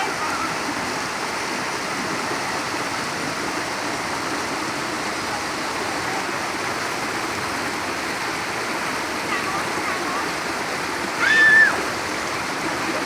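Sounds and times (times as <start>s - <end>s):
waterfall stream rushing: 0.0s - 13.0s.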